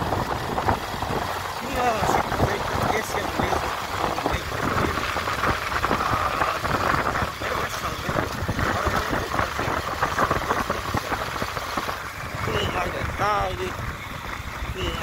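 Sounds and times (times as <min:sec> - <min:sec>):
steady rushing noise: 0:00.0 - 0:15.0
vehicle engine running: 0:00.0 - 0:15.0.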